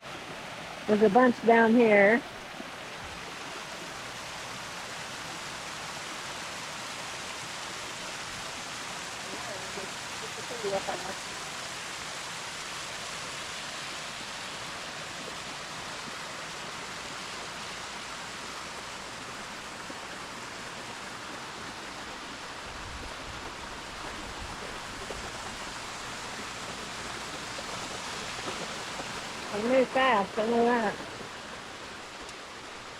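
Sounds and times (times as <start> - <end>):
flowing water rushing: 0.0 - 32.9.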